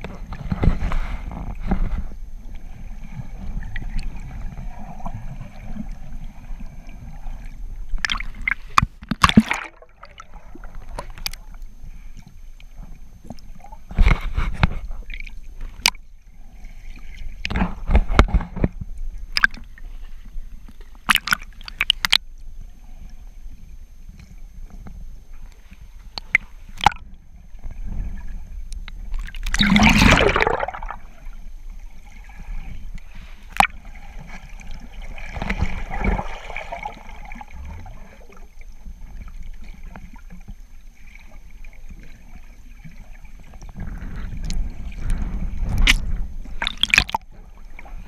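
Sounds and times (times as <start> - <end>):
underwater rumble of moving water: 0.0 - 48.0
water gurgling and sloshing: 0.0 - 48.0.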